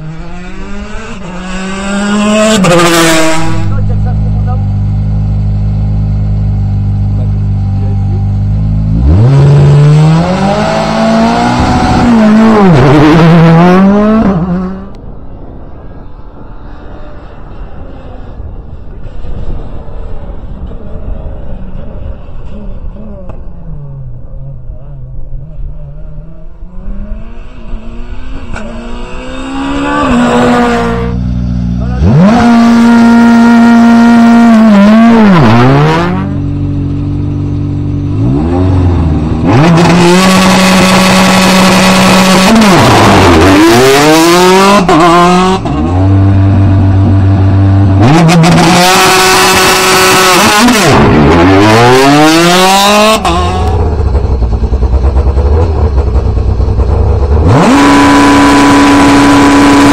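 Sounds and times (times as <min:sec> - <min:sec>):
car accelerating away: 0:00.0 - 0:15.1, 0:16.4 - 0:59.9
rally car engines revving: 0:00.0 - 0:59.9.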